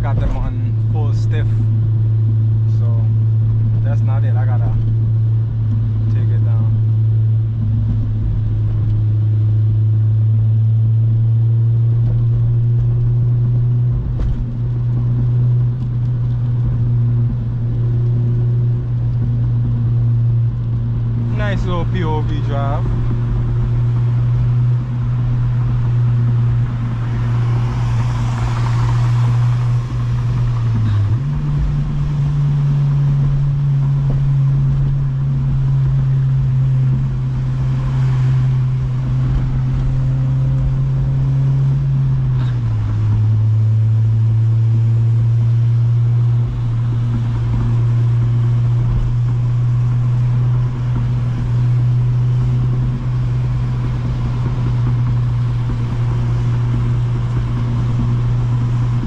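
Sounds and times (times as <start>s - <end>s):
car engine and exhaust droning: 0.0s - 59.0s.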